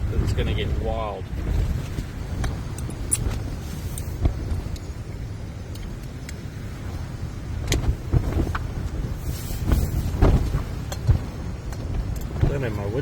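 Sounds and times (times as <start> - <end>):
gusting wind buffeting a tent: 0.0 - 13.0.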